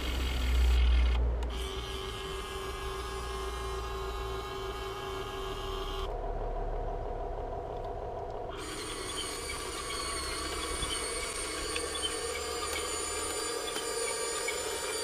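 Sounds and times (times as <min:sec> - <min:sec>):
toy excavator motors whining: 0:00.0 - 0:06.1, 0:08.5 - 0:15.0.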